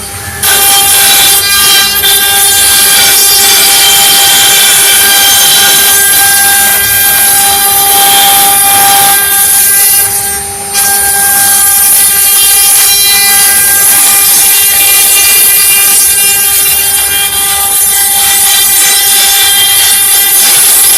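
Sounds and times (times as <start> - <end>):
router spindle high whine: 0.0 - 20.9.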